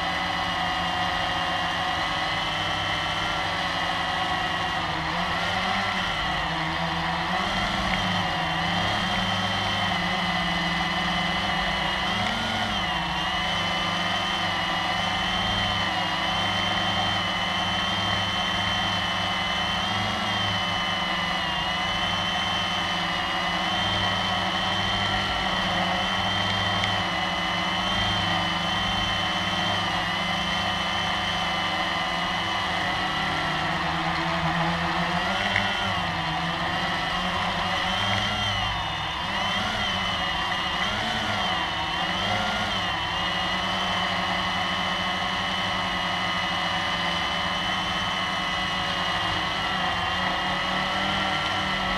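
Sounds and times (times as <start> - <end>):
drone propellers whirring: 0.0 - 51.9.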